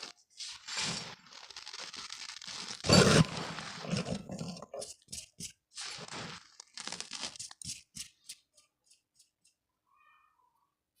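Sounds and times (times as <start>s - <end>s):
chalk crunching and crackling: 0.0s - 9.5s.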